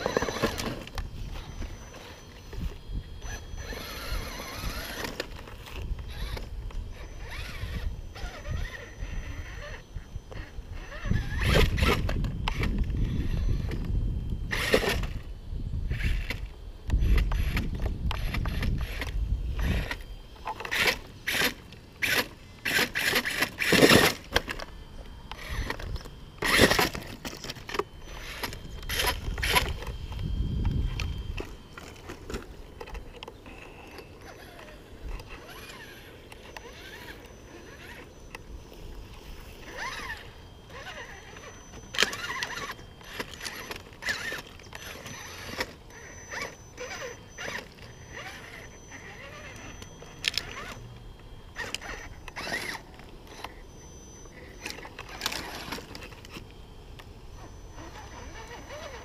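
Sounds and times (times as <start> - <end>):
toy car drivetrain rumbling: 0.0 - 15.2, 15.9 - 59.0.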